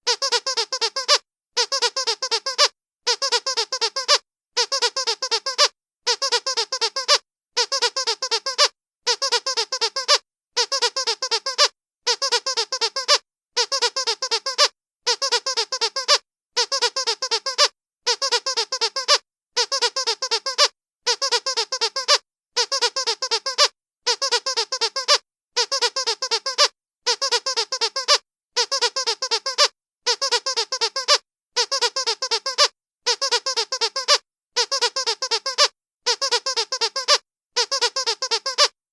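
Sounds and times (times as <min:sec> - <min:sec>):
squeaky toy squeaking: 0:00.0 - 0:38.8.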